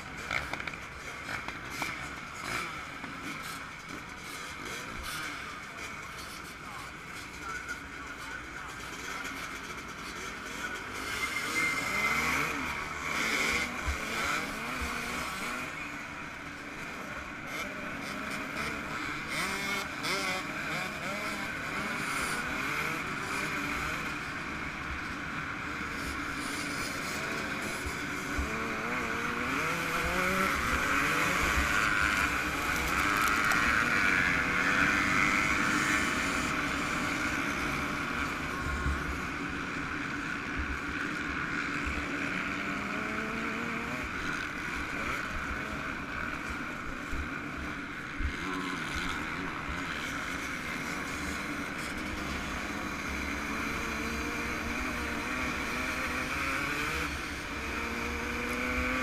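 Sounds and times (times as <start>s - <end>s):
motocross engine revving: 0.2s - 5.4s, 9.3s - 59.0s.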